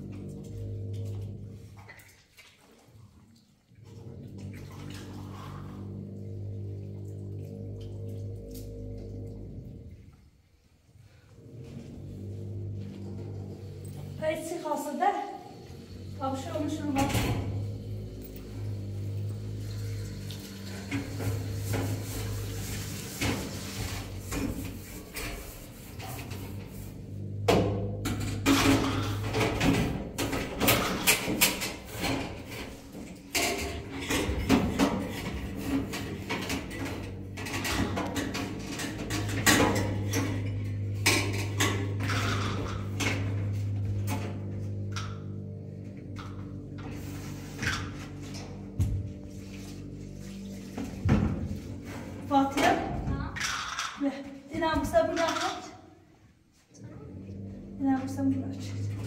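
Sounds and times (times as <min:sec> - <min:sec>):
steady low hum: 0:03.8 - 0:53.5.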